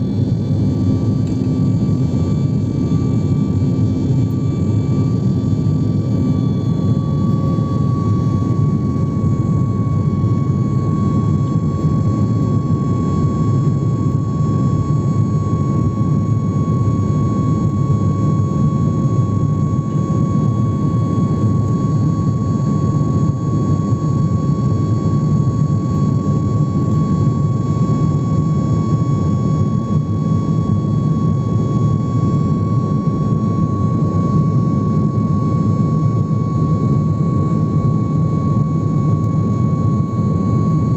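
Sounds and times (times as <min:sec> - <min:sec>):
high whine: 0:00.0 - 0:40.9
jet engine rumble: 0:00.0 - 0:40.9.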